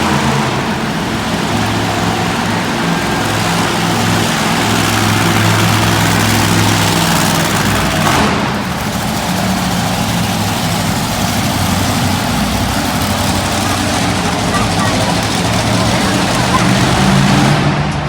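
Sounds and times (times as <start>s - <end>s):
arena noise: 0.0s - 18.0s
monster truck engine running: 0.0s - 18.0s.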